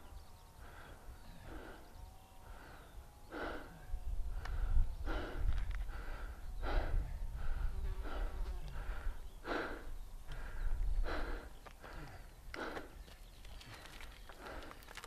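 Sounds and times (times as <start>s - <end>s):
person breathing hard: 0.6s - 13.1s, 13.7s - 15.0s.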